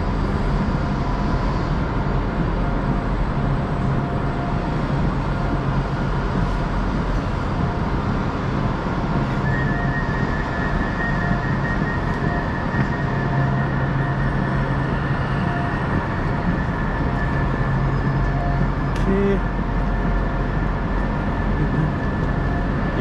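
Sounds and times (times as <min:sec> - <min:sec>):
electric train humming: 0:00.0 - 0:23.0
high-pitched whine: 0:00.0 - 0:23.0.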